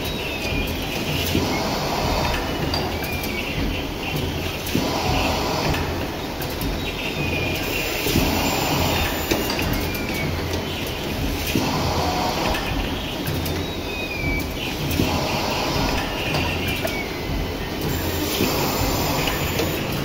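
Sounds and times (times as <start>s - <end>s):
box forming machine clattering: 0.0s - 20.0s
machine squeaks: 0.0s - 20.0s.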